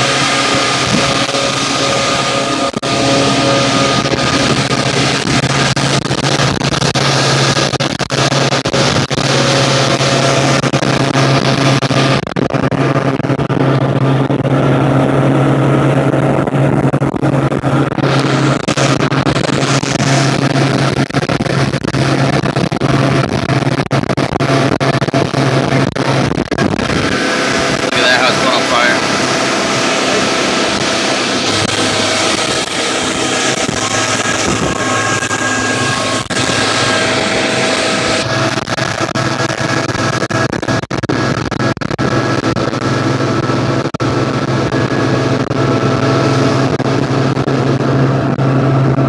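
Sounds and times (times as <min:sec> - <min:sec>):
motorboat engine running: 0:00.0 - 0:49.0
rushing wind: 0:00.0 - 0:49.0
water rushing: 0:00.0 - 0:49.0.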